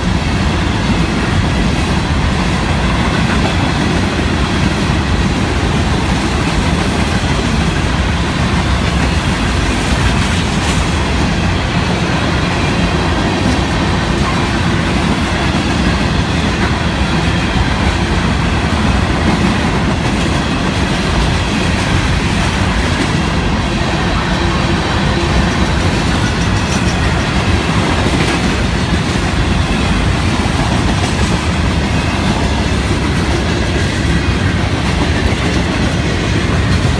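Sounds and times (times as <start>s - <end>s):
clickety-clack at rail joints: 0.0s - 36.9s
freight train rolling past: 0.0s - 36.9s.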